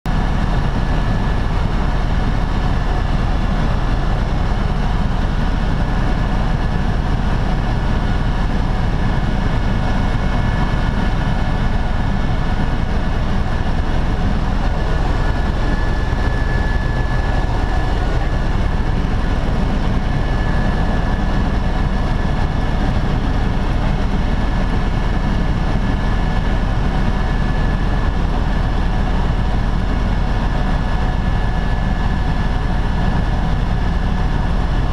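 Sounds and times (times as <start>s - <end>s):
helicopter rotor and engine drone: 0.1s - 34.9s
high steady whine: 0.1s - 34.9s.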